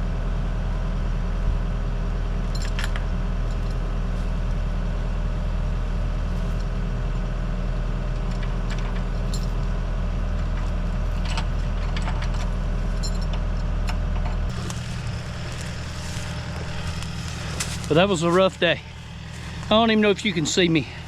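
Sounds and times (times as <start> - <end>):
skid steer engine running: 0.0 - 21.0.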